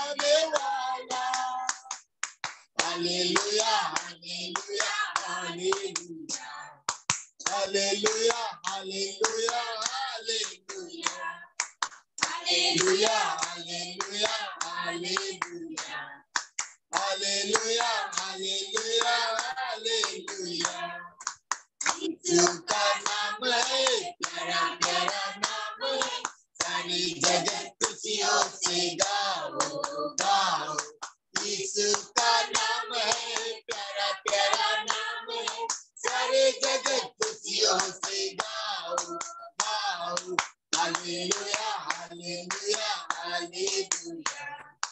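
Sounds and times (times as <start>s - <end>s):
women singing together: 0.0s - 2.0s, 2.8s - 44.9s
hands clapping: 0.0s - 44.9s.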